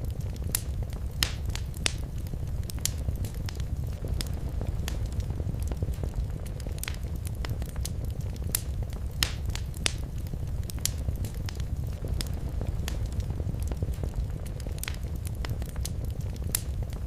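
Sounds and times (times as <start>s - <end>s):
low rumble: 0.0s - 17.0s
wood fire crackling and popping: 0.0s - 17.0s.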